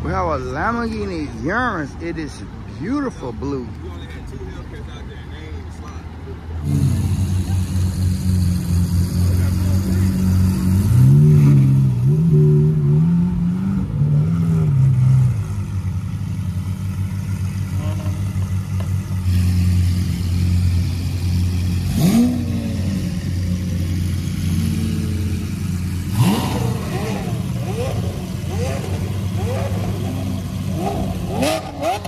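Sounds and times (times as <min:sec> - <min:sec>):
car engine droning: 0:05.6 - 0:32.0.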